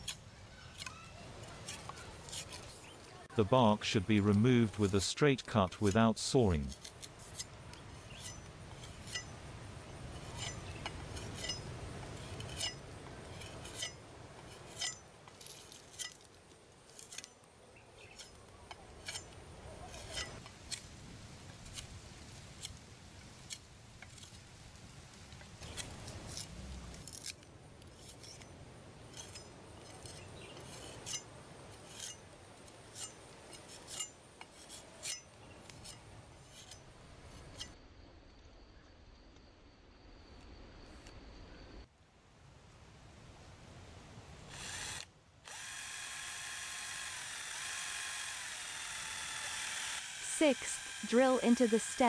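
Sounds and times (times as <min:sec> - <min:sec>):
knife cutting and scraping bark: 0:00.0 - 0:03.3, 0:04.3 - 0:24.6, 0:25.6 - 0:37.8, 0:44.6 - 0:51.8.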